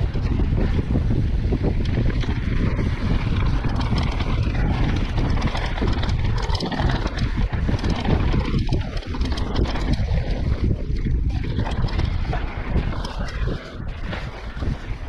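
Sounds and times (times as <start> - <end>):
bike rattling: 0.0 - 15.0
wind buffeting microphone: 0.0 - 15.0.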